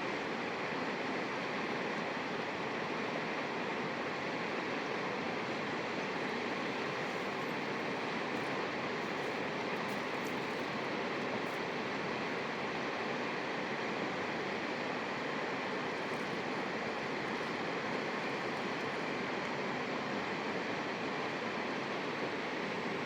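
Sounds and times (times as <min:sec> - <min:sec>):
running water rushing: 0:04.1 - 0:23.0.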